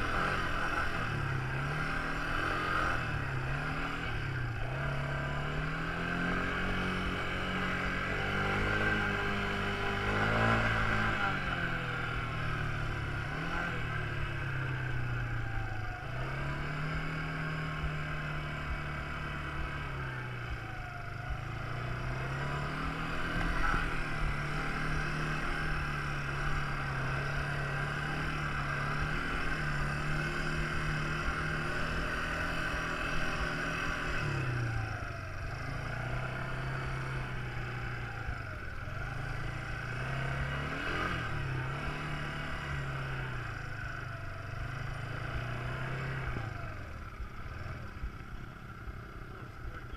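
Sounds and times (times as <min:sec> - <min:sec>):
quad bike engine revving: 0:00.0 - 0:49.9.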